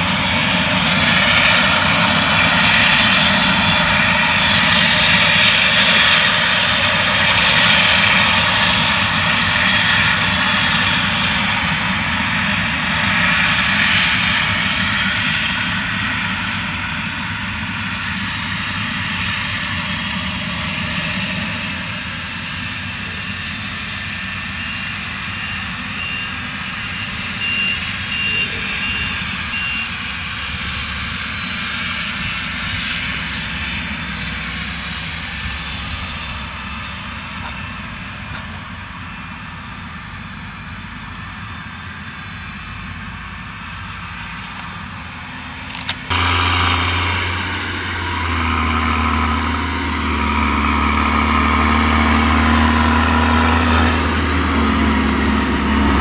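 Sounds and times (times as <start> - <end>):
forage harvester engine droning: 0.0 - 56.0.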